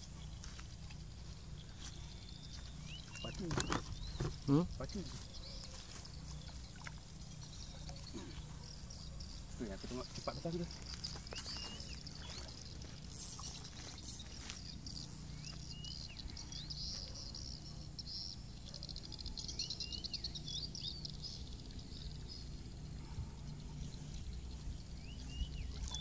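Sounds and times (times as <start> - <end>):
bird chirping: 1.5 - 26.0.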